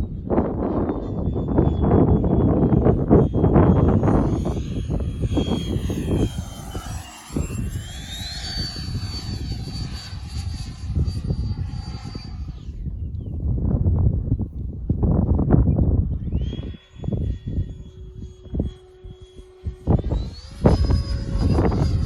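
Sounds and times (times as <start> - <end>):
electric ducted fans whining: 0.0 - 22.0
wind buffeting microphone: 0.0 - 22.0.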